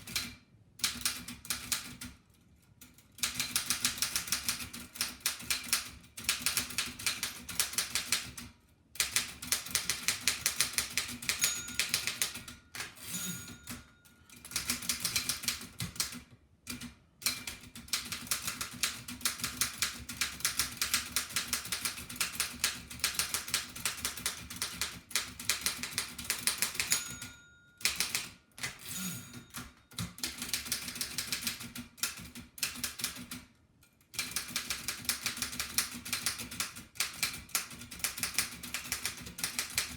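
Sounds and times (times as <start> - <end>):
typewriter keystrokes clacking: 3.2 - 8.4, 9.0 - 13.8, 14.4 - 28.9, 29.5 - 33.4, 34.2 - 39.9.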